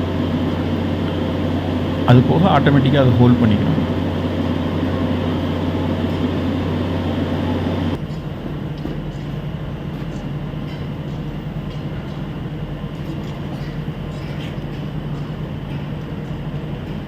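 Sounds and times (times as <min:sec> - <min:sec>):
tamping machine droning: 0:00.0 - 0:17.0.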